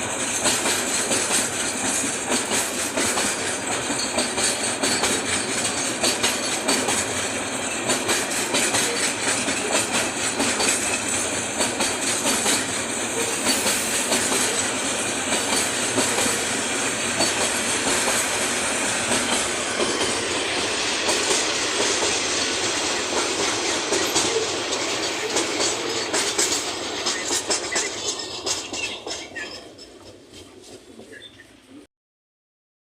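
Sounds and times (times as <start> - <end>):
wheels clacking over rail joints: 0.0 - 31.4
train rumbling on rails: 0.0 - 31.9.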